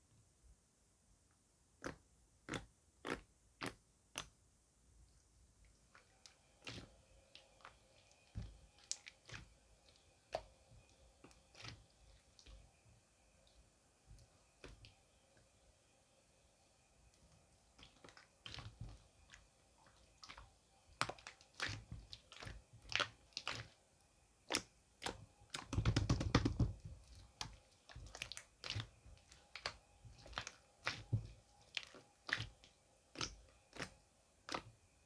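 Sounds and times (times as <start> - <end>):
soft wet clicks and squishes: 1.3 - 15.7, 17.0 - 35.0.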